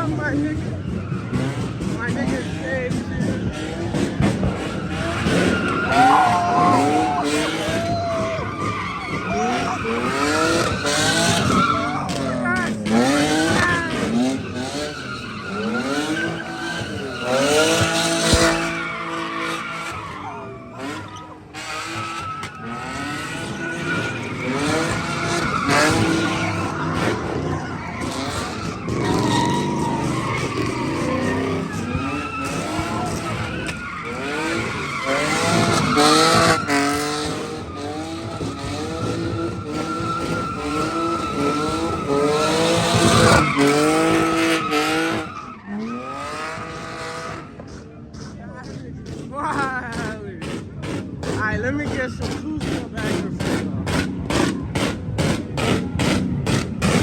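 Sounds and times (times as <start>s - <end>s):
car engine revving: 0.0s - 57.0s
tires squealing: 0.0s - 57.0s.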